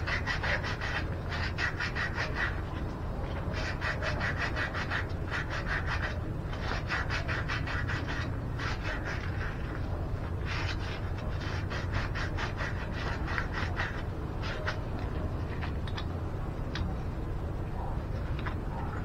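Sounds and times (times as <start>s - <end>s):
abrasive pad scrubbing pipe: 0.0s - 16.9s.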